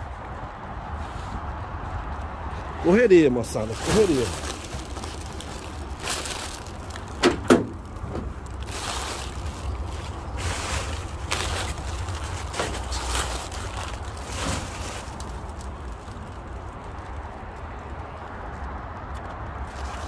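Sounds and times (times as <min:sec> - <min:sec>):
steady low rumble: 0:00.0 - 0:18.4
rustles: 0:00.2 - 0:18.0, 0:19.2 - 0:20.0.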